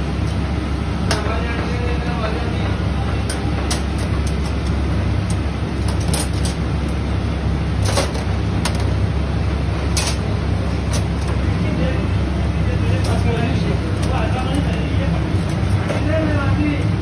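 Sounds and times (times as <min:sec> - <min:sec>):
kitchen equipment rumble: 0:00.0 - 0:17.0.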